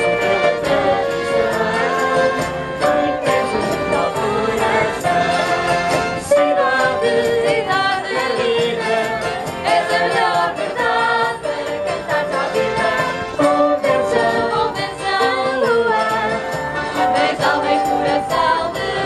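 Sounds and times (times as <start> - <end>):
keyboard: 0.0 - 19.0
violin: 0.0 - 19.0
women singing together: 0.0 - 19.0.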